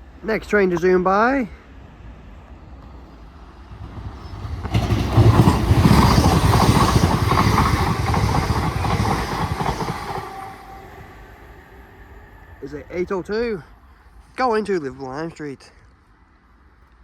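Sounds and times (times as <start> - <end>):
train passing at speed: 0.0 - 14.9.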